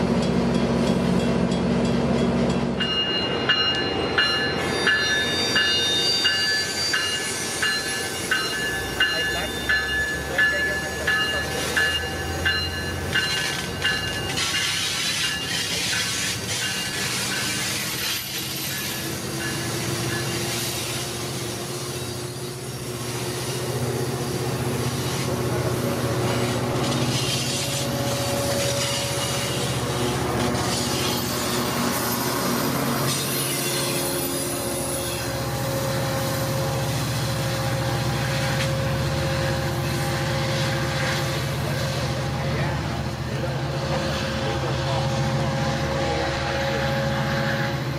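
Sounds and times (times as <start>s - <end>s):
diesel locomotive drone: 0.0s - 47.9s
train wheels rumbling on rail: 0.0s - 47.9s.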